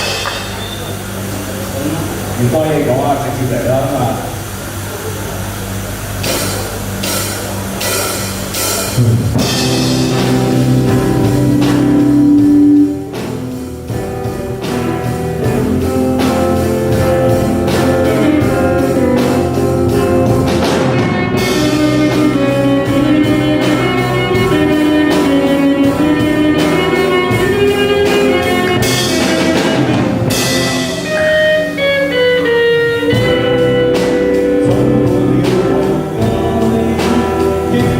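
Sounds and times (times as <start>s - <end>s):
band playing music: 0.0s - 37.9s
drums keeping steady beat: 0.0s - 37.9s.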